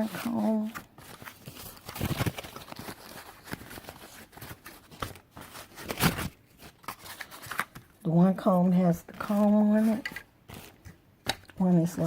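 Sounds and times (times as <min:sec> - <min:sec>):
packaging rustling: 0:00.0 - 0:08.0, 0:08.6 - 0:11.6.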